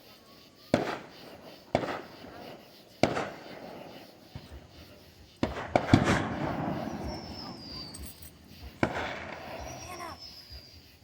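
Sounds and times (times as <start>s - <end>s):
fireworks banging: 0.7s - 10.8s.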